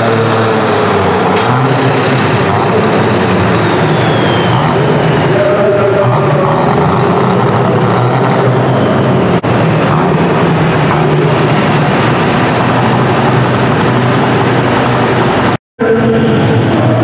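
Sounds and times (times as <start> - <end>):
tractor engine idling loudly: 0.0 - 17.0.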